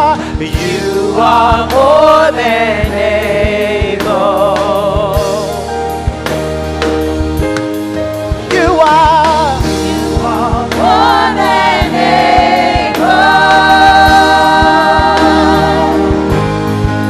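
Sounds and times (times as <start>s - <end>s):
drum hits: 0.4s - 17.0s.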